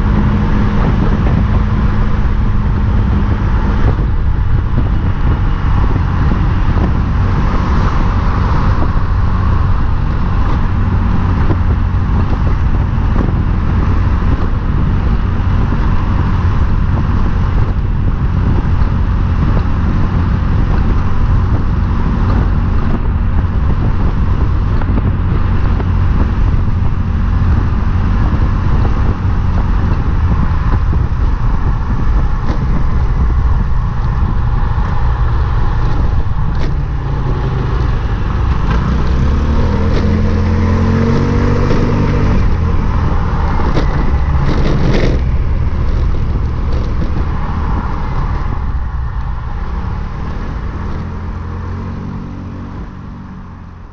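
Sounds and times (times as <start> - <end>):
engine note rising and falling: 0.0 - 53.9
road and wind noise: 0.0 - 53.9.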